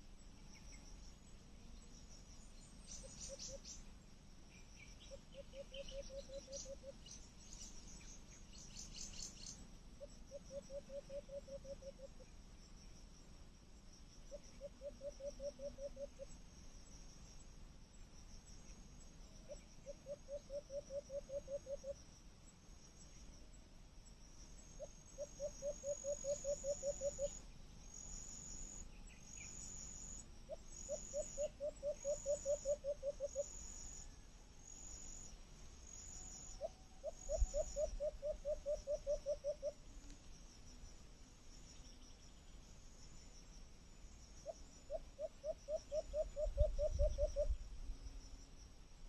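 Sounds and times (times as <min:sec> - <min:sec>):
insects chirping: 0:00.0 - 0:49.0
lower pulsing insect call: 0:00.0 - 0:49.0.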